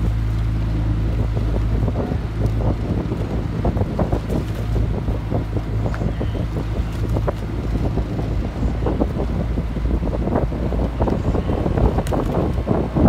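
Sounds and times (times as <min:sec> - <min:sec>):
outboard motor humming: 0:00.0 - 0:13.0
wind buffeting microphone: 0:00.0 - 0:13.0.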